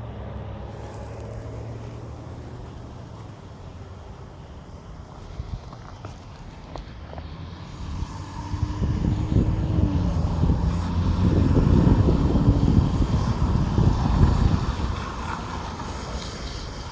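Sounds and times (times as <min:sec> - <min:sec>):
passing vehicle engine and road rumble: 0:00.0 - 0:16.9.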